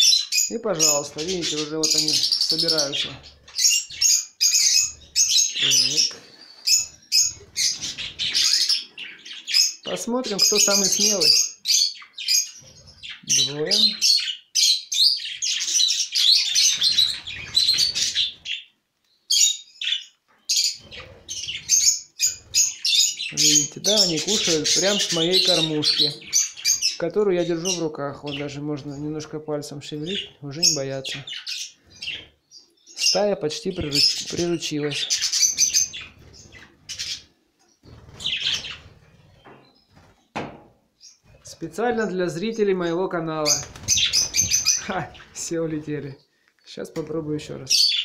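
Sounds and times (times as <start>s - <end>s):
budgerigars chattering and squawking: 0.0s - 18.7s, 19.3s - 40.3s, 41.0s - 46.2s, 47.2s - 48.0s.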